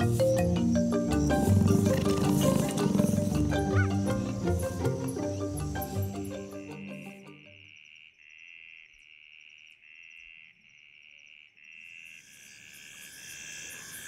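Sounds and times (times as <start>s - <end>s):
insect trilling: 0.0s - 14.0s
pulsing insect chirp: 0.0s - 14.0s.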